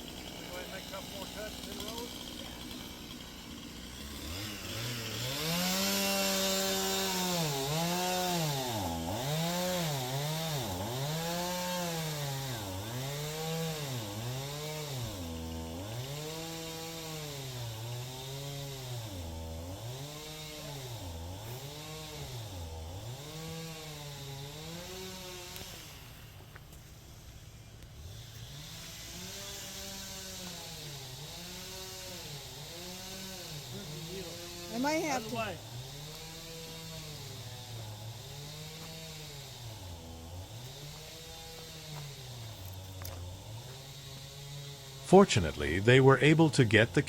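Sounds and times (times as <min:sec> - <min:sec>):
chainsaw engine revving: 0:00.0 - 0:26.5, 0:27.9 - 0:47.0.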